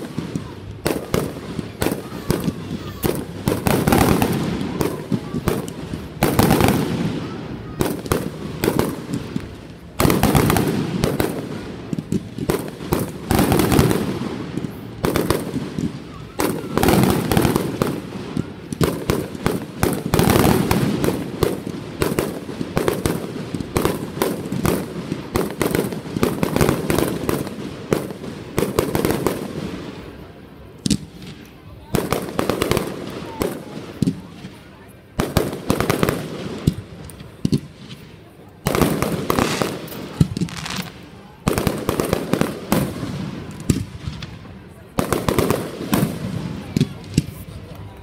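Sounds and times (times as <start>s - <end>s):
fireworks bangs: 0.0s - 48.0s
fireworks crackling and popping: 0.0s - 48.0s.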